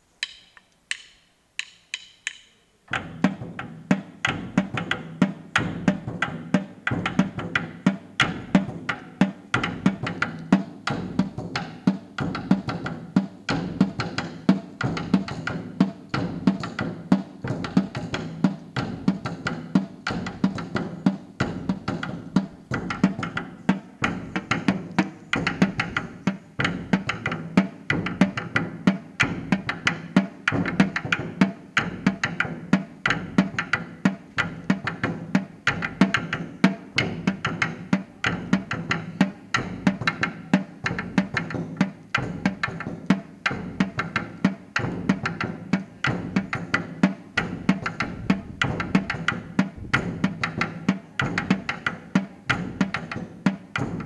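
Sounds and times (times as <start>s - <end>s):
marching snare drum: 2.9s - 54.0s.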